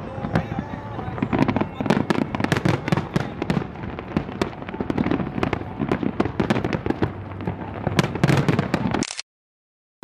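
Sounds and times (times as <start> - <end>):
fireworks bangs and crackles: 0.0 - 9.0.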